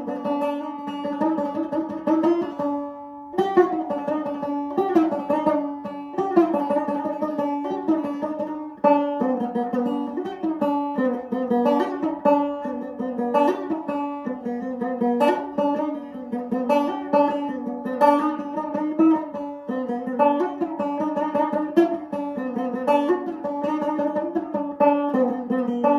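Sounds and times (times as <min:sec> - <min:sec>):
plucked banjo: 0:00.0 - 0:25.9.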